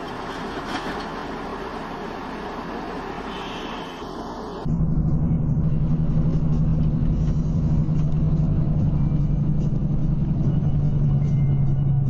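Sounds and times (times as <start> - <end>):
vehicle engine and tyres droning: 0.0 - 12.0.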